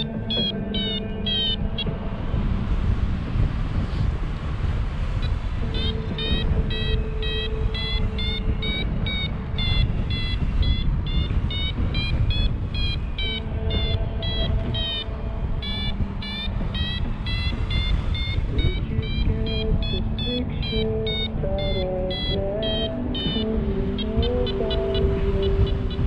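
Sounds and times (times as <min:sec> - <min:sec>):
variometer beeping: 0:00.0 - 0:26.0
wind on microphone: 0:00.0 - 0:26.0.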